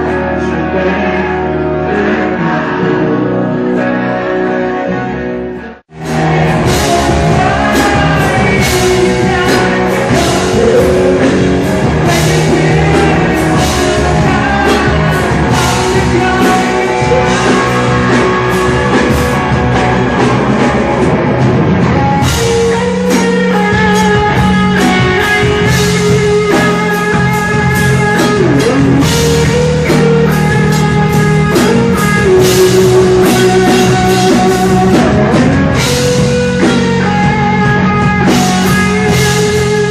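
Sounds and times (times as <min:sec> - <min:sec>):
guitar: 0:00.0 - 0:39.9
rock band playing: 0:00.0 - 0:39.9
drum kit beat: 0:06.0 - 0:39.9.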